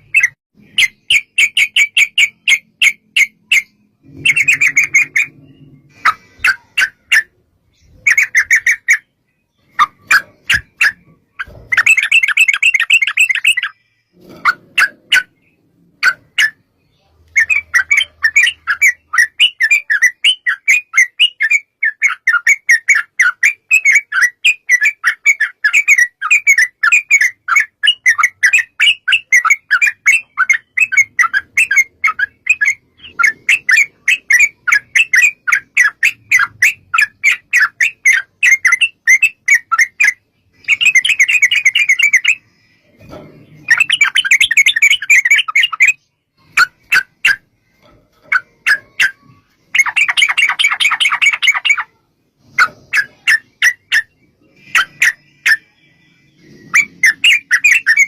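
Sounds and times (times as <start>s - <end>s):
bird chirping and chattering: 0.0s - 58.0s.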